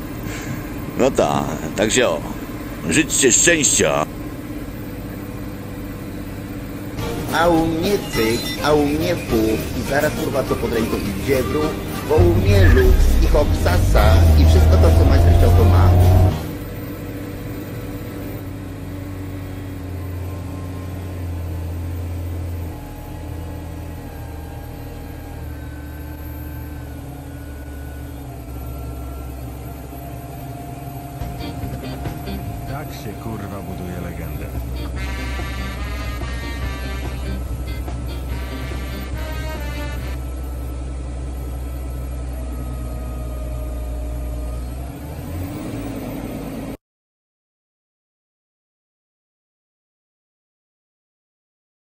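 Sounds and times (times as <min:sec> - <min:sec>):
diesel engine running: 0:00.0 - 0:46.8.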